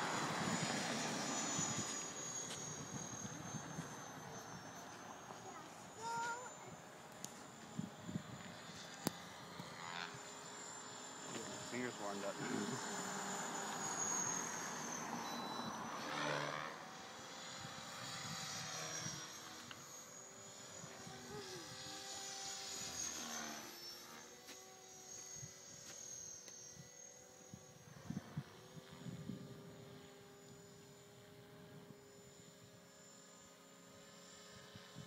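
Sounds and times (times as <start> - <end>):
rc helicopter motor whine: 0.0 - 35.0.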